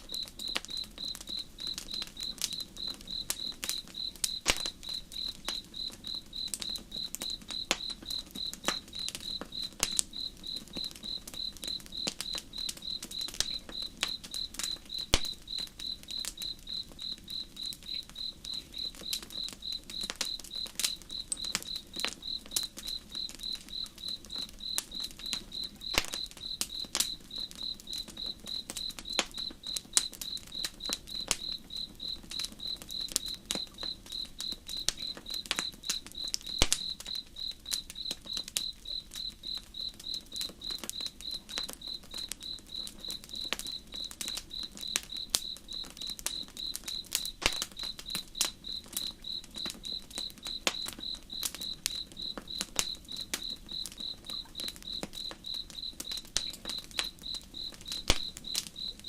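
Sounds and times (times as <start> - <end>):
campfire crackling: 0.0 - 59.0
cricket chirping: 0.0 - 59.0.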